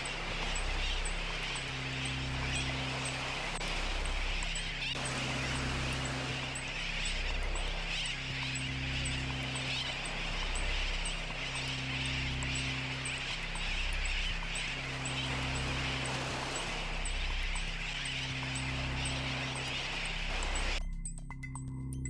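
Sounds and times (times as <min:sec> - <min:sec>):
low droning chord pulsing: 0:00.0 - 0:20.8
faint high ticks: 0:00.0 - 0:22.0.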